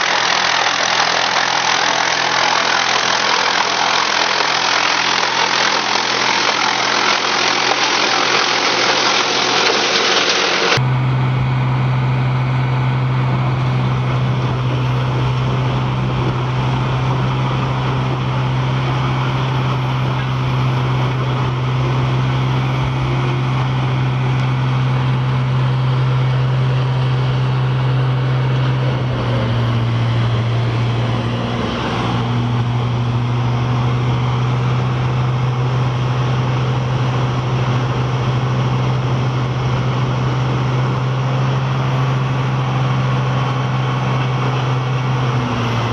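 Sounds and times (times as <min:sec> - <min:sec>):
wood chipper engine running: 0:00.0 - 0:45.9.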